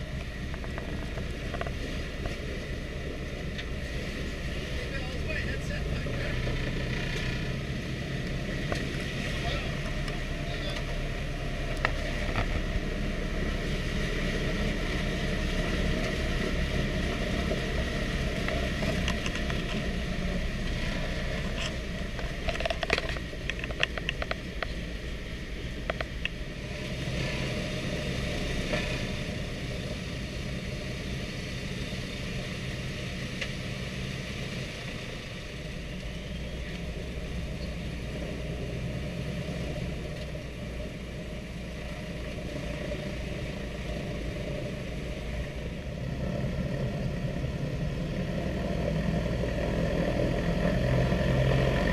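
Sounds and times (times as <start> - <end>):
radial aircraft engines running: 0.0 - 51.9.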